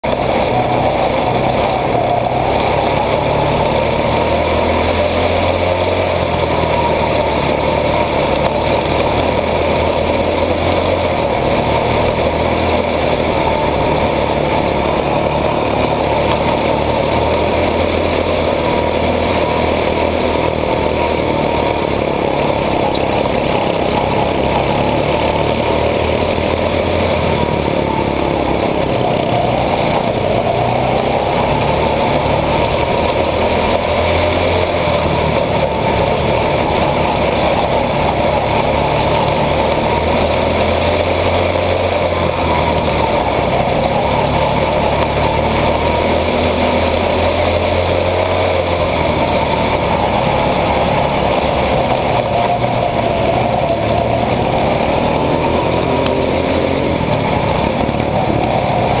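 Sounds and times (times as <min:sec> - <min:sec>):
small race car engine running: 0:00.0 - 0:59.0.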